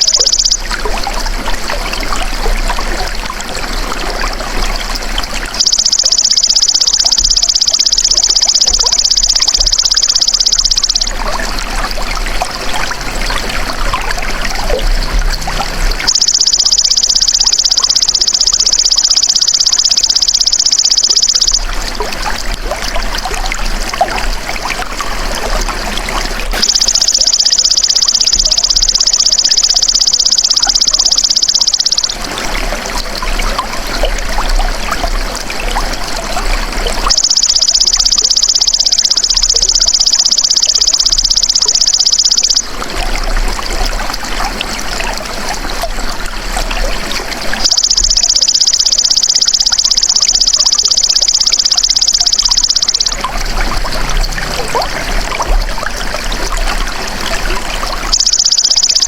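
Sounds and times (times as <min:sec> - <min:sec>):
running water trickling: 0:00.0 - 0:59.0.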